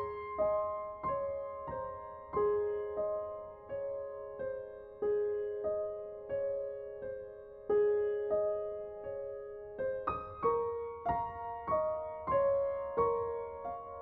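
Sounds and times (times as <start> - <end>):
slow gentle solo piano: 0.0 - 14.0.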